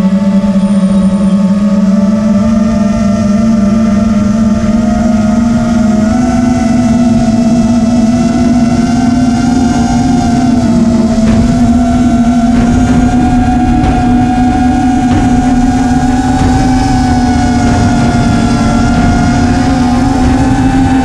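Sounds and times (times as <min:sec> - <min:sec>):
quadcopter motors buzzing: 0:00.0 - 0:21.0
wind rush on microphone: 0:00.0 - 0:21.0.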